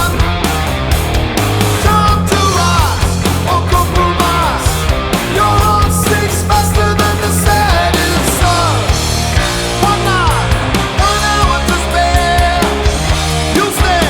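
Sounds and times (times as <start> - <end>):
loud rock music: 0.0 - 14.0.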